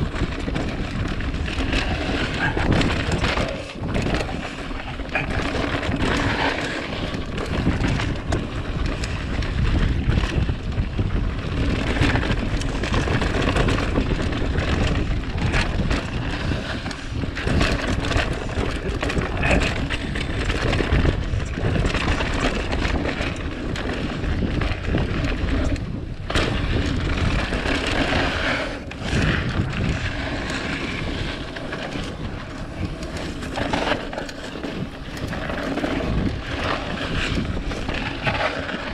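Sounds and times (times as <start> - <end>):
bike knocks and rattles: 0.0 - 38.9
bike tyres rumbling on dirt: 0.0 - 38.9
wind buffeting microphone: 0.0 - 38.9.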